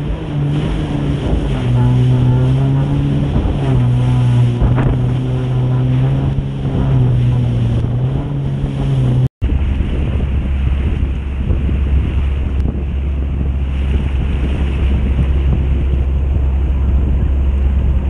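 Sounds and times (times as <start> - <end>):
jet ski engine running: 0.0 - 18.0
water noise: 0.0 - 18.0
wind buffeting microphone: 0.0 - 18.0.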